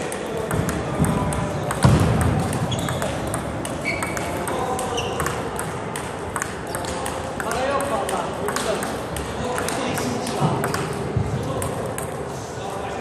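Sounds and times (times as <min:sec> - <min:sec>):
table tennis balls clicking: 0:00.0 - 0:12.2.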